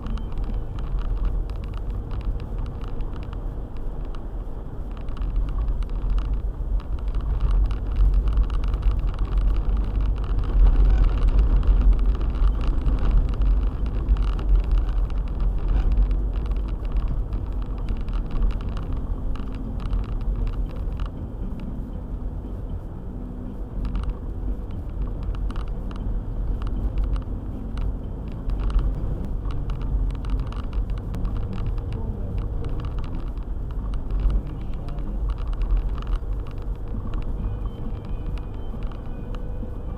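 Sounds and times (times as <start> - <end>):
small clicks and knocks: 0.0 - 4.2, 4.9 - 21.8, 23.8 - 39.9
car engine rumble: 0.0 - 39.9
road noise: 0.0 - 39.9.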